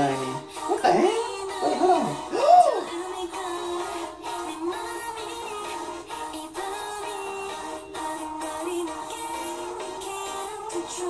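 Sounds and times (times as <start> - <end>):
girl-group pop song: 0.0 - 11.0.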